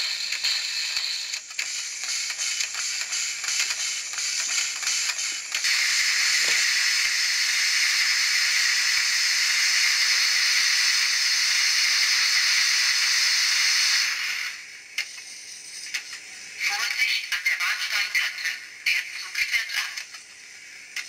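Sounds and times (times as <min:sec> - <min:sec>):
steam locomotive hiss: 0:00.0 - 0:21.0.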